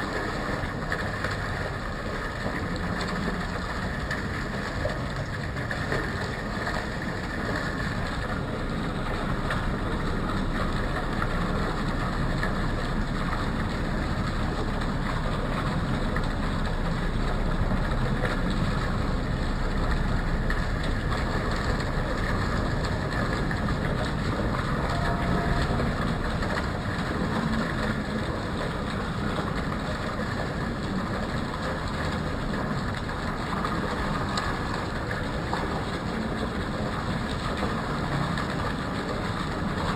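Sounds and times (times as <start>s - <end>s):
city traffic rumble: 0.0s - 39.9s.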